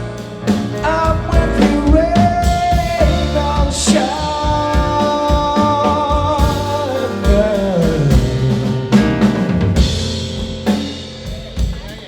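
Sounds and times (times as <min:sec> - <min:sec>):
drums: 0:00.0 - 0:12.0
live band music: 0:00.0 - 0:12.0.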